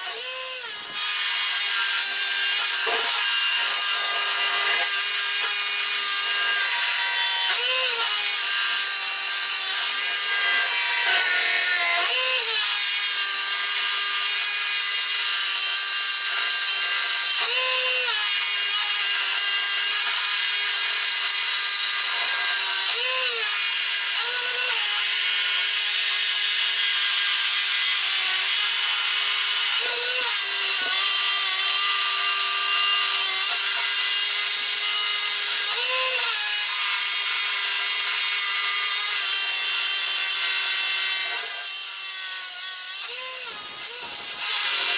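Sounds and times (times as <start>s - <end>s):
power drill boring into concrete: 0.0s - 44.9s.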